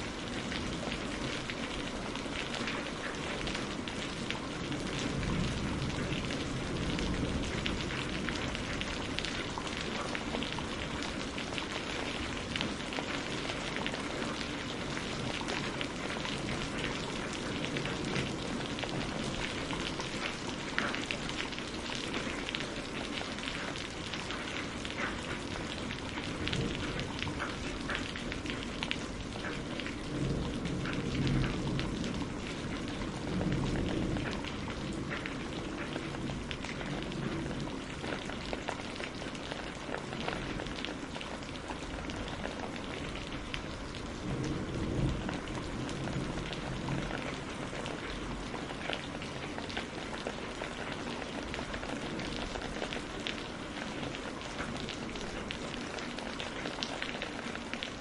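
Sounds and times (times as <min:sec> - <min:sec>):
rain on a greenhouse roof: 0:00.0 - 0:58.0.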